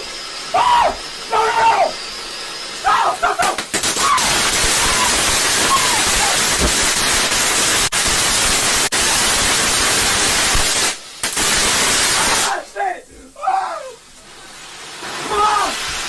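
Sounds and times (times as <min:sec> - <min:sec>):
firework fountain hissing: 0:00.0 - 0:16.0.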